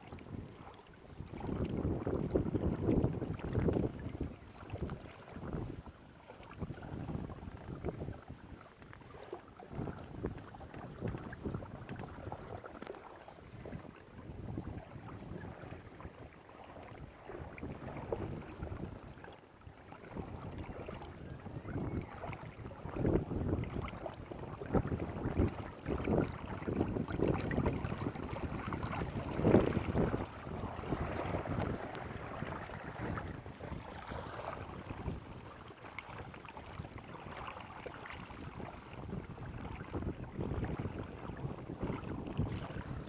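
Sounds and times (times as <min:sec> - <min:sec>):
wind buffeting microphone: 0:00.0 - 0:05.9, 0:06.5 - 0:19.2, 0:20.0 - 0:43.0
water splashing against kayak hull: 0:00.0 - 0:43.0.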